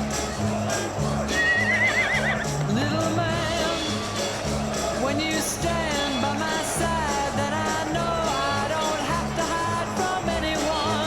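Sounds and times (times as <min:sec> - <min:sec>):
repeating bass pattern: 0:00.0 - 0:01.7, 0:02.3 - 0:11.0.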